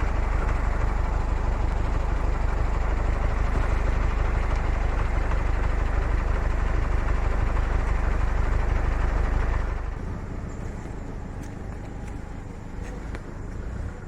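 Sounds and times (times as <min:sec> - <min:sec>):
heavy vehicle engine rumbling: 0:00.0 - 0:14.0.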